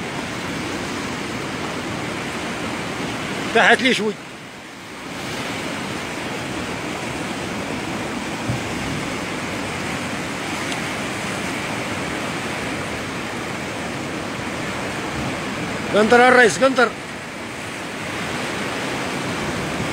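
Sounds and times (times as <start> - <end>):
sea surf breaking on rocks: 0.0 - 19.9.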